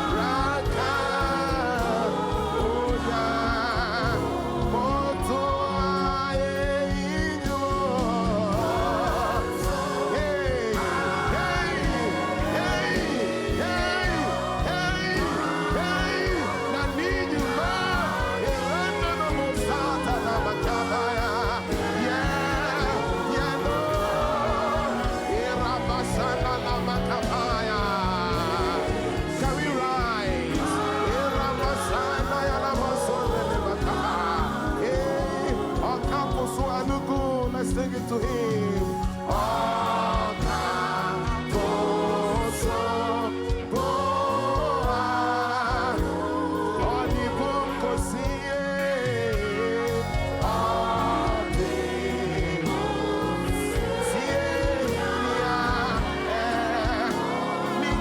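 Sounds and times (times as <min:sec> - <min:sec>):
backing voices singing: 0:00.0 - 0:58.0
steady beat: 0:00.0 - 0:58.0
sustained keyboard chords: 0:00.0 - 0:58.0.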